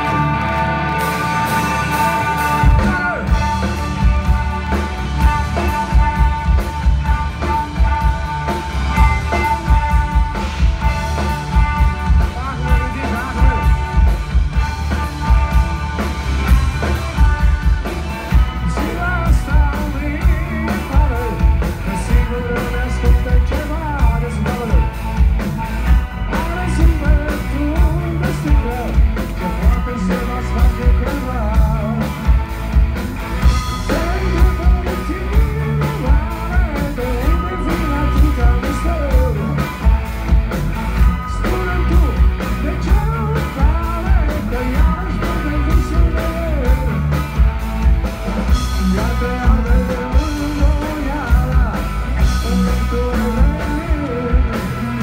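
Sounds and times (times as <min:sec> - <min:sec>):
lead singer singing: 0:00.0 - 0:15.6, 0:16.9 - 0:25.1, 0:26.3 - 0:32.4, 0:33.7 - 0:40.1, 0:41.0 - 0:47.4, 0:48.5 - 0:55.0
drum beat: 0:00.0 - 0:55.0
electric guitars: 0:00.0 - 0:55.0.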